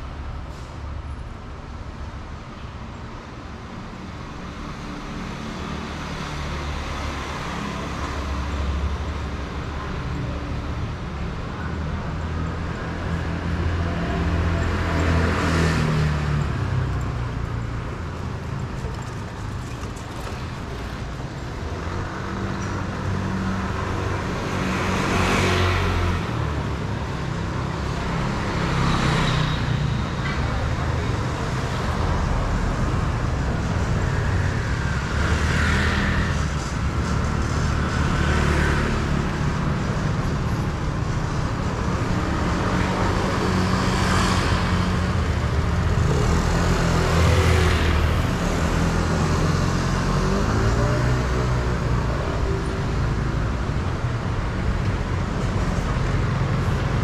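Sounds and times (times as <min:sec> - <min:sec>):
low traffic rumble: 0:00.0 - 0:57.0
vehicles passing close by: 0:00.0 - 0:57.0.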